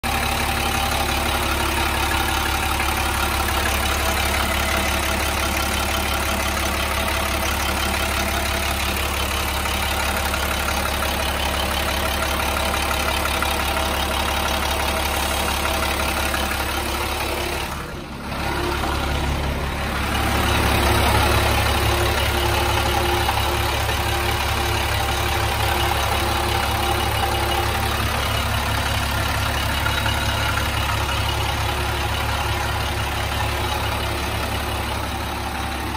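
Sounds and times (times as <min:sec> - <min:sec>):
diesel bus engine idling: 0:00.0 - 0:35.9.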